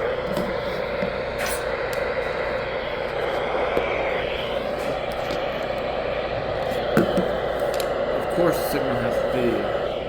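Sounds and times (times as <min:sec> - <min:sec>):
radio static hiss and crackles: 0:00.0 - 0:10.0.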